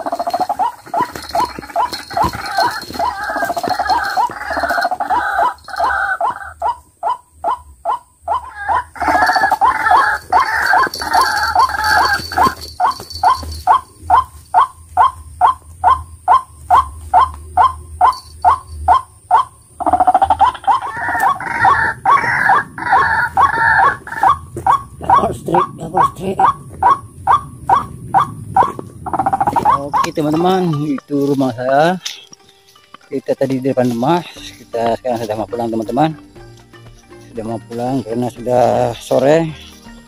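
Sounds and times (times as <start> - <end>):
waterhen calling: 0.0 - 36.3.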